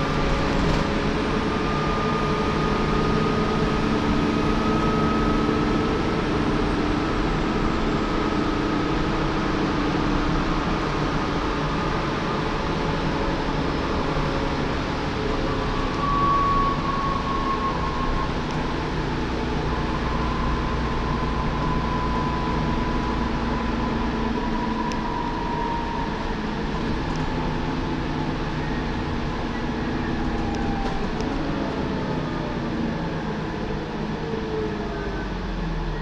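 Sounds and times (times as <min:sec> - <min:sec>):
bus engine drone: 0:00.0 - 0:36.0
road noise: 0:00.0 - 0:36.0.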